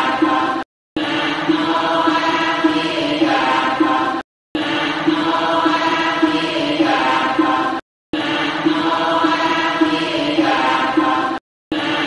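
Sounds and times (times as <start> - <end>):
devotional chanting: 0.0 - 12.0.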